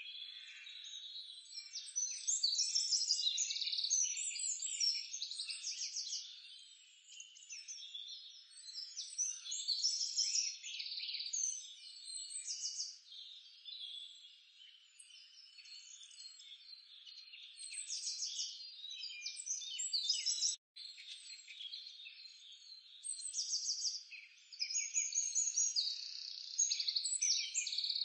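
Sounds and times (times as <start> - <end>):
birds chirping and trilling: 0.1 - 28.0.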